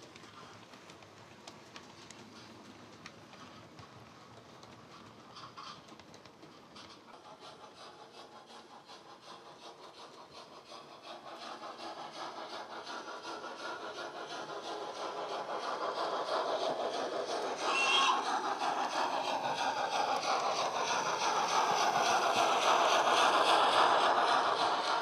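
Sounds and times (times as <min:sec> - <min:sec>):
model steam locomotive chuffing: 0:00.0 - 0:25.0.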